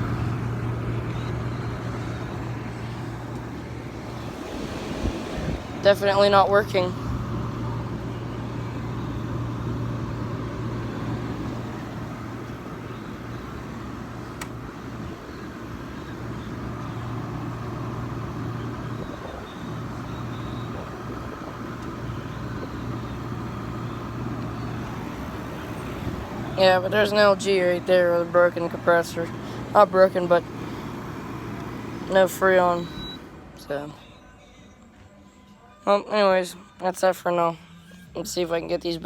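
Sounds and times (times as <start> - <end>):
air conditioner fan rushing: 0.0 - 33.5
air conditioner compressor hum: 0.0 - 34.0.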